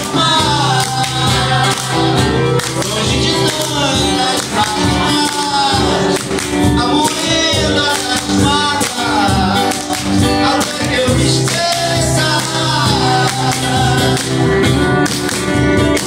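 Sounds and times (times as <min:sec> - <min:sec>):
man singing into a microphone: 0:00.0 - 0:14.8
hand percussion: 0:00.0 - 0:16.0
strummed acoustic guitars: 0:00.0 - 0:16.0.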